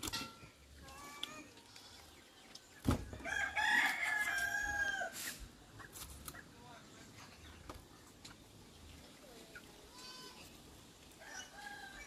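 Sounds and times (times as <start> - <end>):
faint farm animal calls: 0.4 - 12.0.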